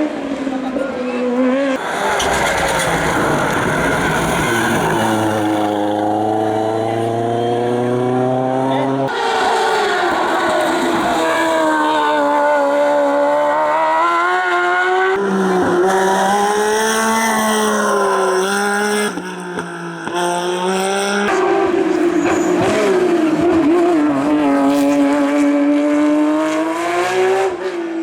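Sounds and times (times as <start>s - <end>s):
race car engines accelerating: 0.0s - 28.0s.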